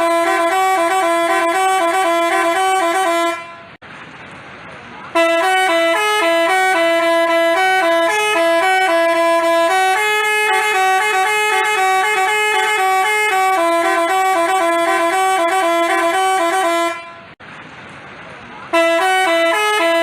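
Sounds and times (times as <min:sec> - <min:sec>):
bus horn playing a tune: 0:00.0 - 0:03.8, 0:05.1 - 0:17.4, 0:18.7 - 0:20.0.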